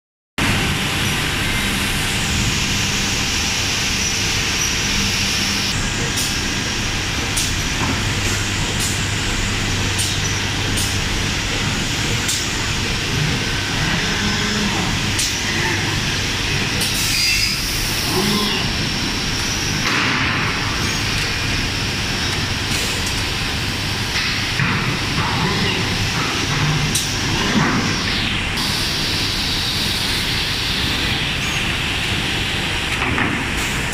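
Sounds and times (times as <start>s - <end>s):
machine and air noise: 0.4s - 33.9s.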